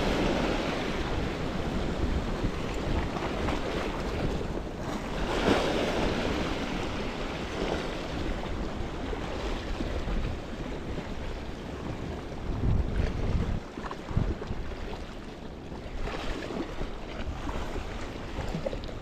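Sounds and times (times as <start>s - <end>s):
waves breaking on shore: 0.0s - 19.0s
wind buffeting microphone: 0.0s - 19.0s.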